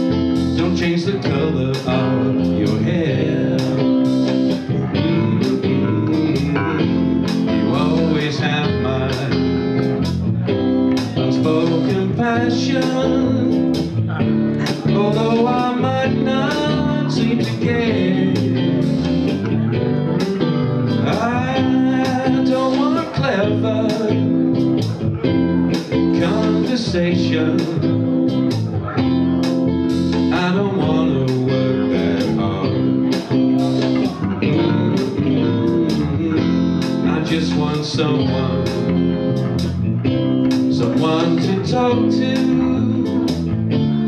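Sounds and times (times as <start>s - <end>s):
man singing into microphone: 0.0s - 10.3s, 11.0s - 20.2s, 20.8s - 25.0s, 25.7s - 29.1s, 30.1s - 39.8s, 40.6s - 44.0s
electric bass: 0.0s - 44.0s
electric guitar: 0.0s - 44.0s.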